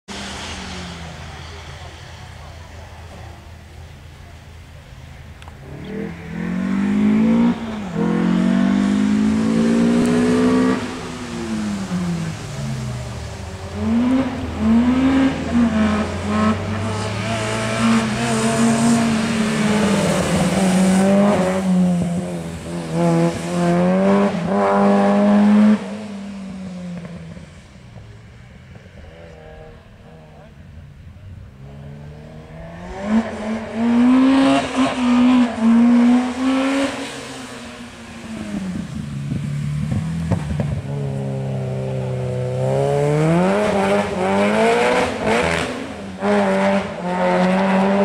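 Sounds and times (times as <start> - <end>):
car engine accelerating hard: 0.1 - 48.0.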